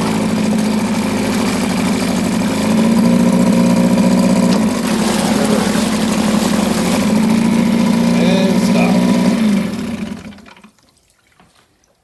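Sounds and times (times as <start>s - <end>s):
outboard motor running: 0.0s - 10.8s.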